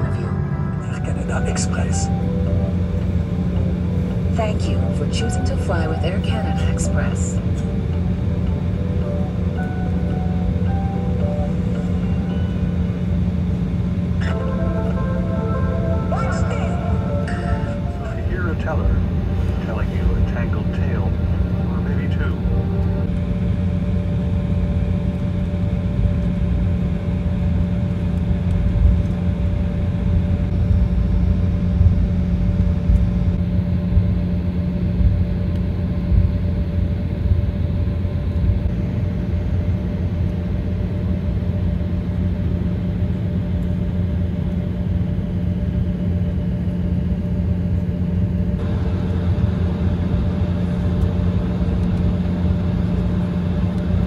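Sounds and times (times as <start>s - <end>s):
jet engines in cabin: 0.0s - 54.0s.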